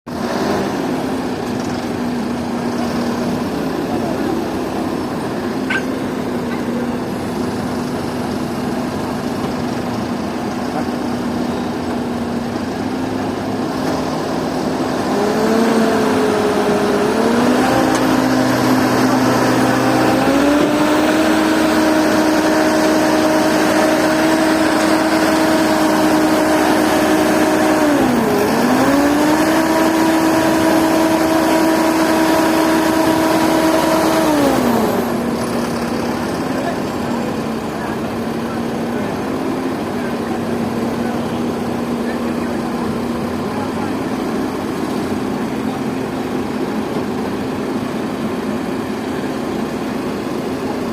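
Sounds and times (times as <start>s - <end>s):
diesel engine idling and revving: 0.1s - 50.9s.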